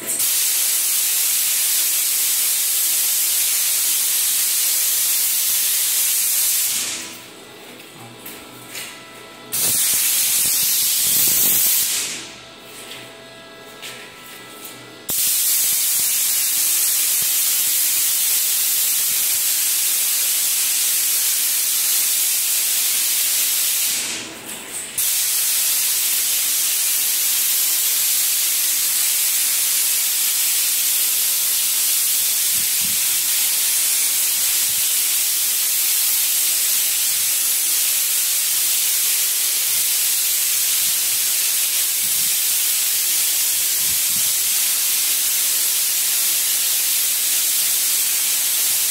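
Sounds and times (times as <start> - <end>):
spray gun hissing: 0.2 - 7.0, 9.5 - 12.2, 15.1 - 24.1, 25.0 - 48.9.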